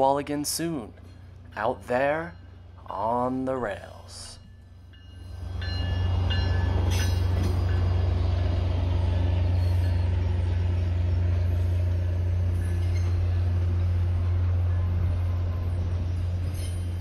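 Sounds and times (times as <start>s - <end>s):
coaches rumbling on rails: 0.0s - 17.0s
locomotive engine drone: 0.0s - 17.0s.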